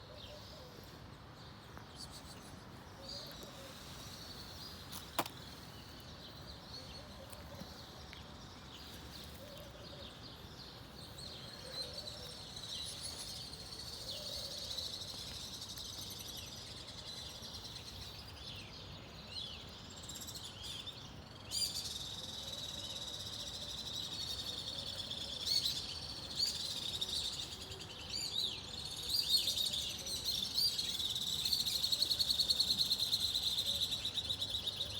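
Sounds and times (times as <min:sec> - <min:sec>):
birds chirping and twittering: 0:00.0 - 0:34.9.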